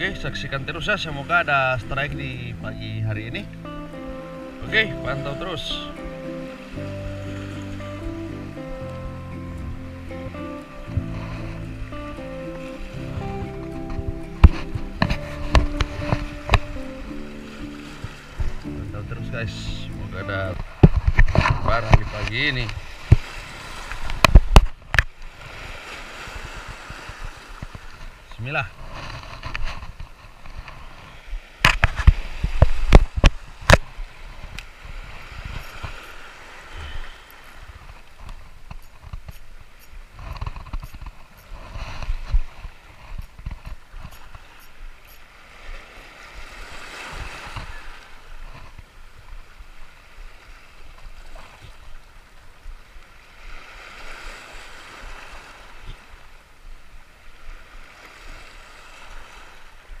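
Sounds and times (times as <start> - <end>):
waves washing against rocks: 0.0 - 60.0.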